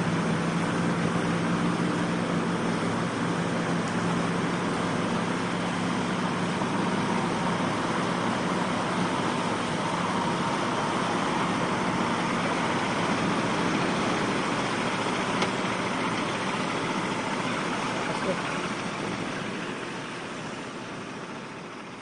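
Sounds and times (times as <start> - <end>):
truck engine running: 0.0 - 22.0
wind: 0.0 - 22.0.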